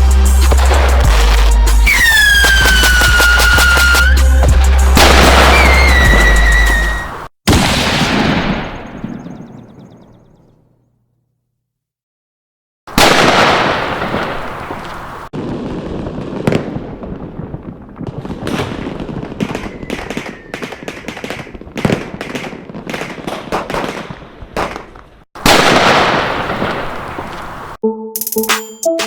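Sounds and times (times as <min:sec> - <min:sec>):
firecracker bangs: 0:00.5 - 0:09.5, 0:12.9 - 0:27.3.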